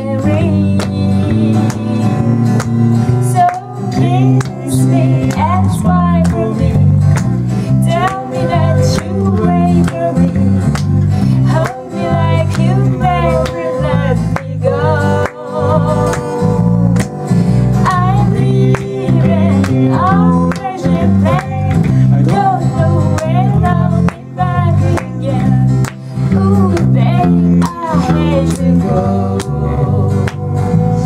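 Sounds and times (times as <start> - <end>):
woman singing: 0.0 - 2.4, 3.2 - 6.9, 7.8 - 10.6, 11.4 - 16.8, 17.8 - 30.4
acoustic guitar strumming: 0.0 - 31.0
electric bass guitar: 0.0 - 31.0.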